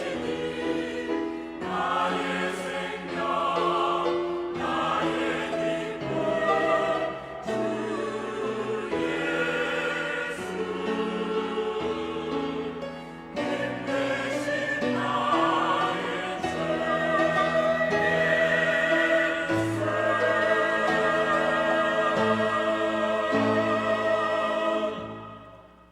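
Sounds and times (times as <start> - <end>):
choir singing a hymn: 0.0 - 25.9.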